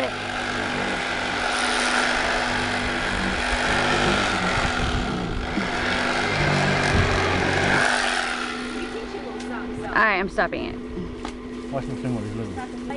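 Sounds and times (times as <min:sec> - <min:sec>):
electric fillet knife buzzing: 0:00.0 - 0:11.0.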